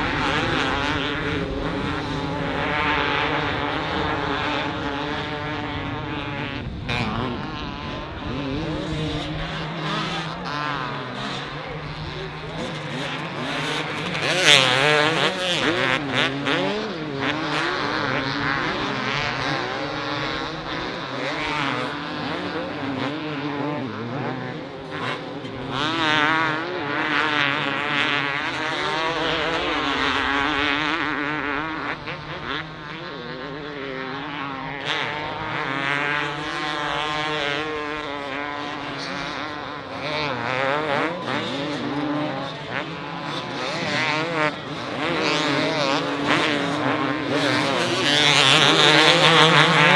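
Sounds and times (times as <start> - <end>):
motocross bikes revving: 0.0 - 49.9.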